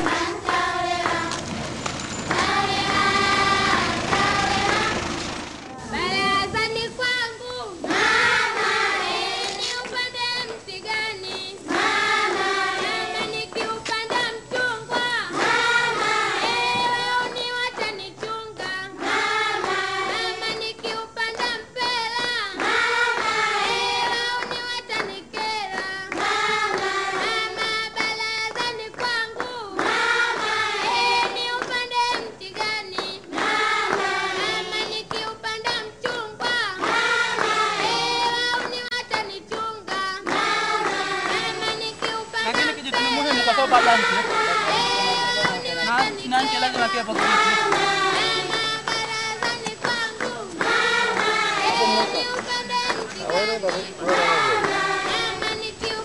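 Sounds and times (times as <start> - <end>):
high voices singing together: 0.0 - 56.0.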